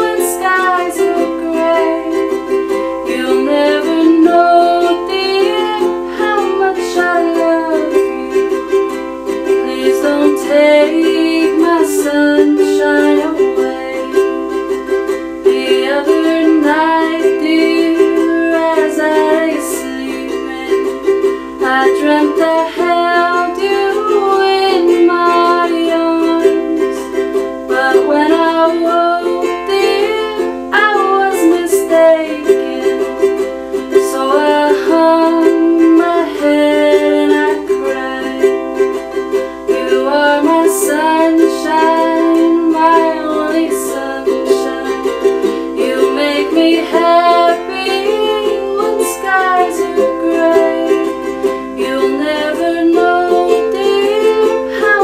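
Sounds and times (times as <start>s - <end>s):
ukulele strumming: 0.0s - 55.0s
woman singing: 0.0s - 55.0s.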